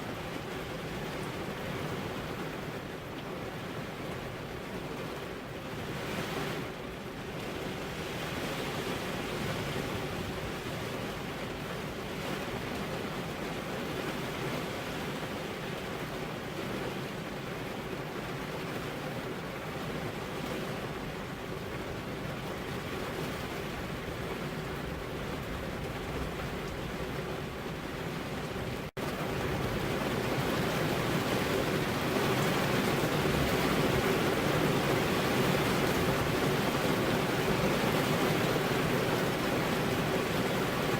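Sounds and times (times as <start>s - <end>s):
rain on car windows: 0.0s - 40.9s.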